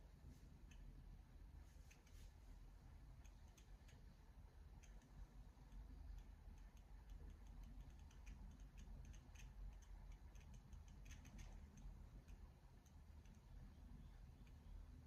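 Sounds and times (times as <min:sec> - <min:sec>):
light ticks: 0:00.5 - 0:15.0.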